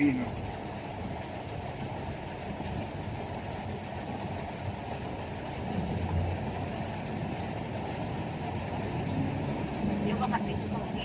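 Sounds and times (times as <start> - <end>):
truck rumbling in motion: 0.0 - 11.0.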